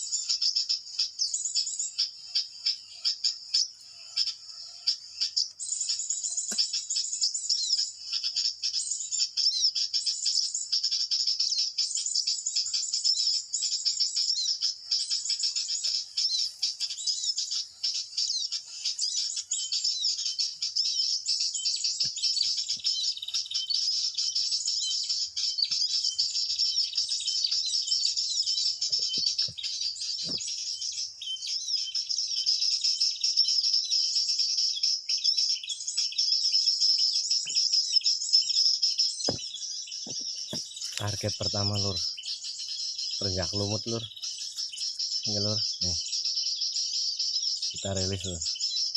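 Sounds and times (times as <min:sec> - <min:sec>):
songbird chirping rapidly: 0:00.0 - 0:48.9.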